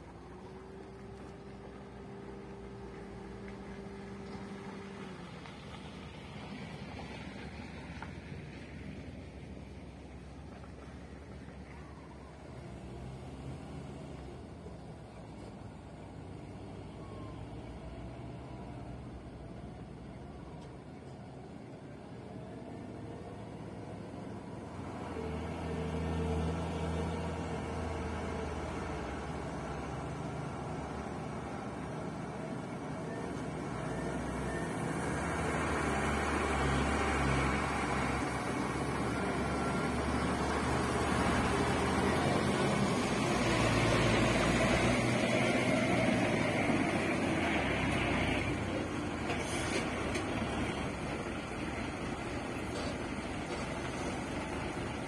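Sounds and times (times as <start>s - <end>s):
truck diesel engine: 0.0s - 55.0s.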